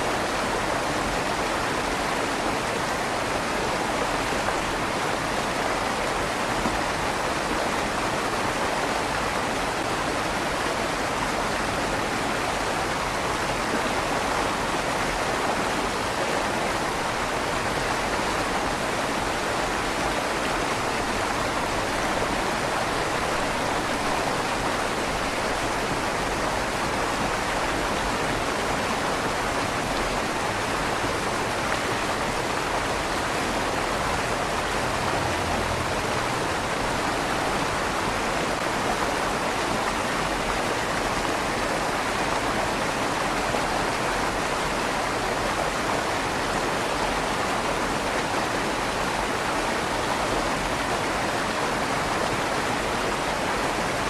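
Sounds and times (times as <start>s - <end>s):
river water rushing in tunnel: 0.0s - 54.0s.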